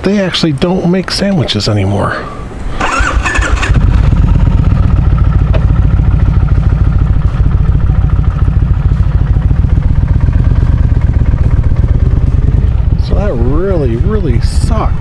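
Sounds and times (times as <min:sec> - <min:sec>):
motorcycle engine running slowly: 0:02.8 - 0:15.0.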